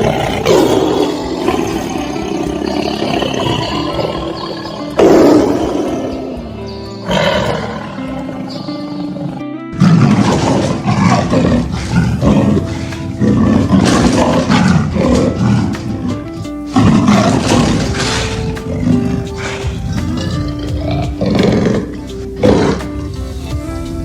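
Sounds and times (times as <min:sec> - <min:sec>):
animal roaring: 0:00.0 - 0:23.1
background music: 0:00.0 - 0:24.0.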